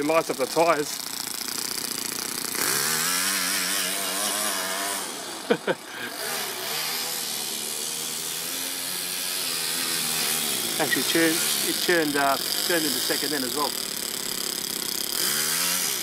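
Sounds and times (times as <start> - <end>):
small engine revving: 0.0 - 16.0.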